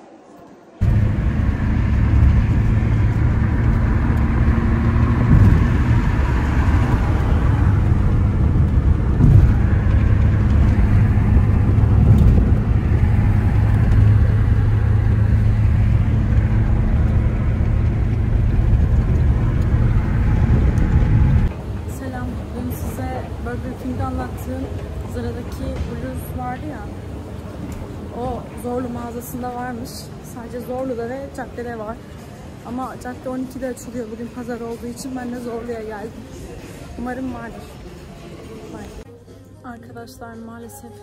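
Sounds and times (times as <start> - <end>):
car road and engine rumble: 0.8 - 39.1.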